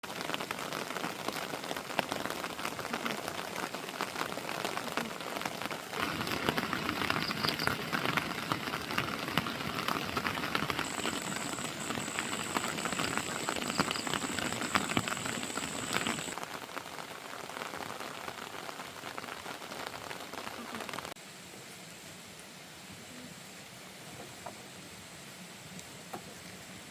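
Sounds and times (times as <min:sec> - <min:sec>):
heavy rain pattering: 0:00.0 - 0:24.4.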